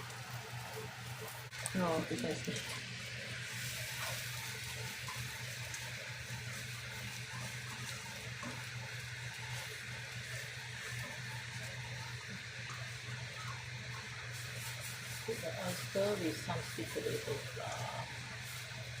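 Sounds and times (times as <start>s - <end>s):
batter sizzling in a pan: 0.0s - 19.0s
steady low hum: 0.0s - 19.0s.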